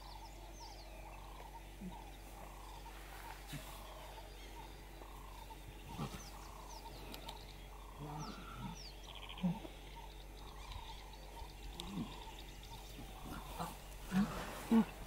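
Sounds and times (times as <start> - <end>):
lion cubs growling: 0.0 - 15.0.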